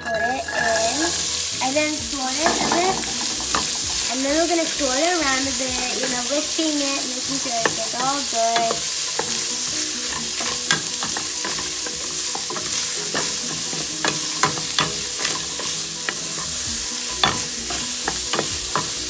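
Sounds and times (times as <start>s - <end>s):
celery sizzling in hot oil: 0.0s - 19.0s
wooden spatula scraping pan: 0.0s - 19.0s.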